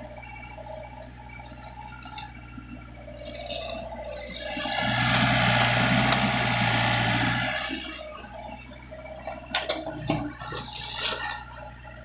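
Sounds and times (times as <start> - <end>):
excavator diesel engine working: 0.0 - 12.0.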